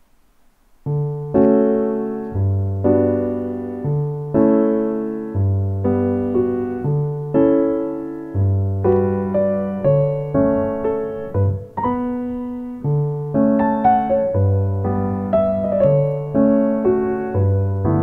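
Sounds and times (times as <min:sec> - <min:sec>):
slow piano chords: 0:00.8 - 0:18.0.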